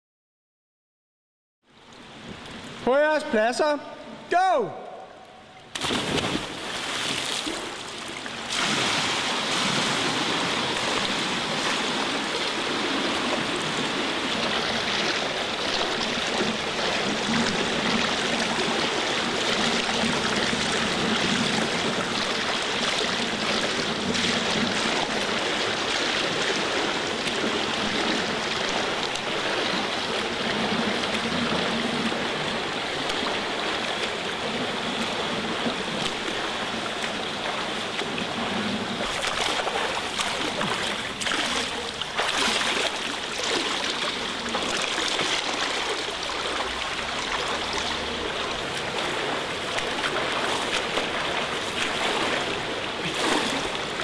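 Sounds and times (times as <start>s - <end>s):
swimmer splashing: 4.9s - 54.0s.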